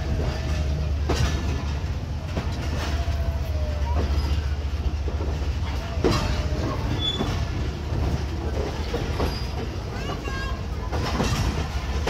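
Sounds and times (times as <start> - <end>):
train coach rumbling: 0.0 - 12.0
wheels clacking over rail joints: 0.0 - 12.0.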